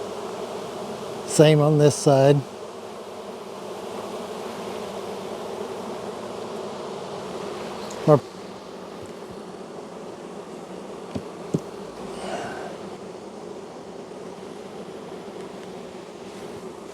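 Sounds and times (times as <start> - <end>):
honey bee colony buzzing: 0.0 - 16.9.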